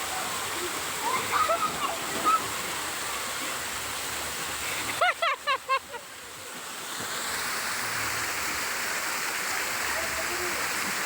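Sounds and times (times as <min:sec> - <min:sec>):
waterfall pouring into pool: 0:00.0 - 0:11.0.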